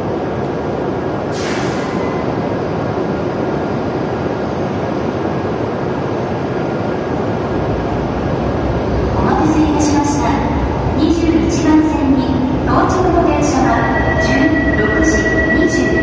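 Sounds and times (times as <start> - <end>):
train rushing rumble: 0.0 - 16.0.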